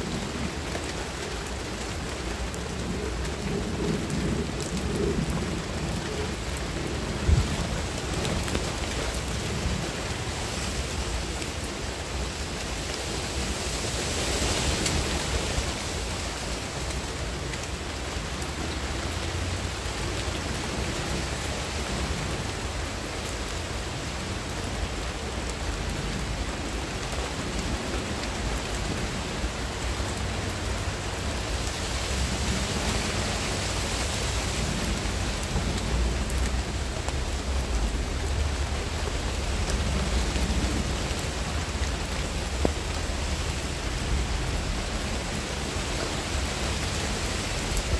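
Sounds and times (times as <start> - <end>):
rain falling on foliage: 0.0 - 47.9.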